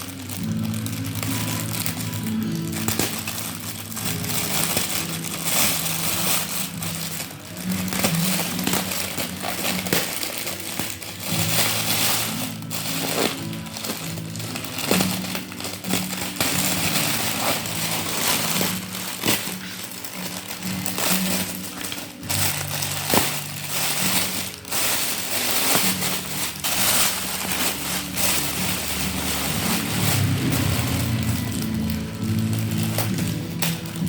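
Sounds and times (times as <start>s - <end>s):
plastic packaging crinkling: 0.0s - 34.0s
quiet background music: 0.0s - 34.0s.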